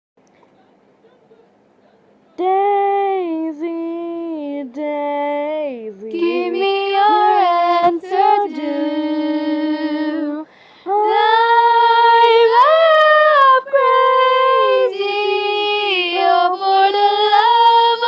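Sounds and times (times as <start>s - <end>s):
woman singing unaccompanied: 2.4s - 18.0s.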